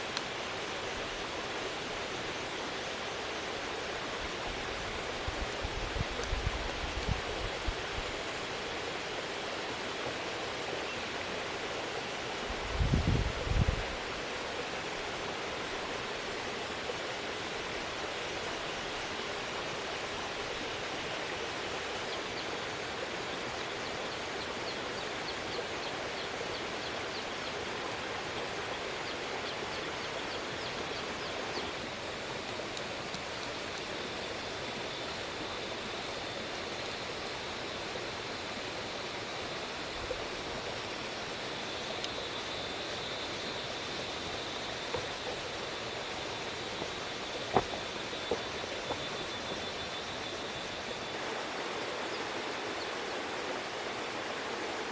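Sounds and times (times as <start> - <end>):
rushing outdoor noise: 0.0 - 54.9.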